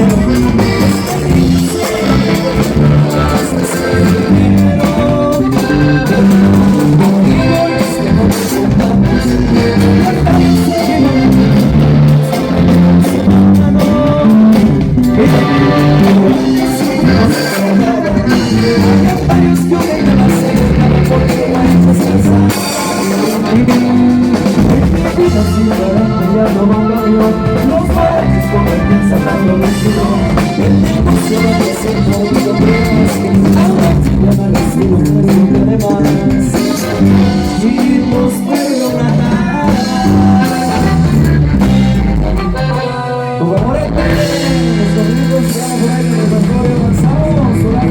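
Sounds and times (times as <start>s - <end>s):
drums: 0.0s - 47.9s
guitar: 0.0s - 47.9s.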